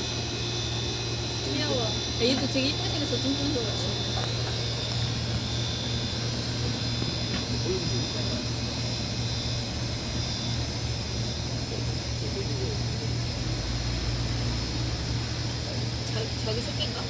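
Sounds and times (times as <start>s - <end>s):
high-pitched whine: 0.0s - 17.0s
low mechanical hum: 0.0s - 17.0s.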